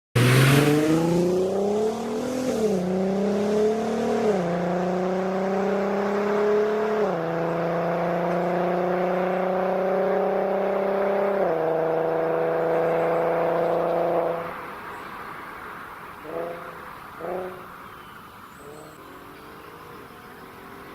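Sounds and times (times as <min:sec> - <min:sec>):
car engine accelerating with upshifts: 0:00.2 - 0:20.9.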